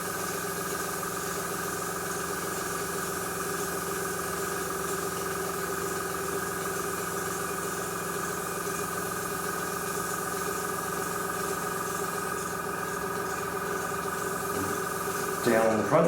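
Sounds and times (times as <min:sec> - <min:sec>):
compressor humming: 0:00.0 - 0:16.0.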